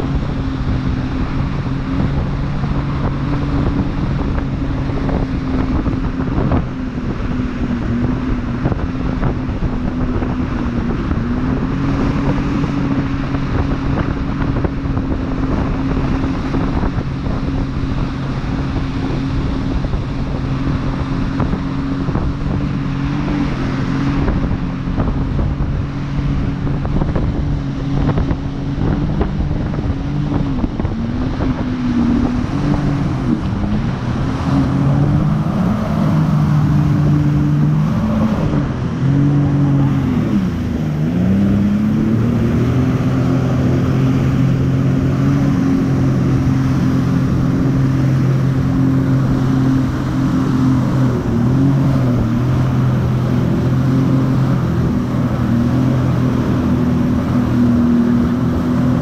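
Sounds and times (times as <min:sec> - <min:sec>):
jet ski engine running: 0:00.0 - 0:59.0
wind buffeting microphone: 0:00.0 - 0:59.0.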